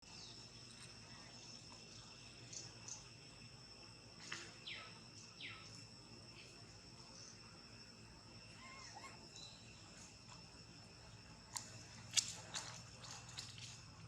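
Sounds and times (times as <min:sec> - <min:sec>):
high-pitched insect drone: 0:00.1 - 0:14.0.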